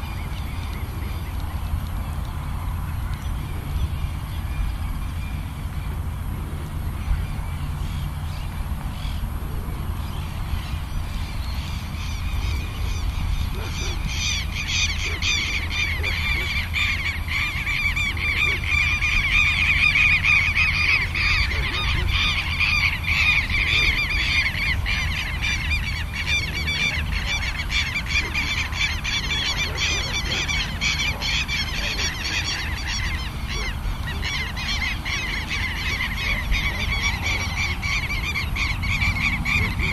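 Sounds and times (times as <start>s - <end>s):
steady low rumble: 0.0s - 39.9s
birds honking: 7.0s - 39.9s.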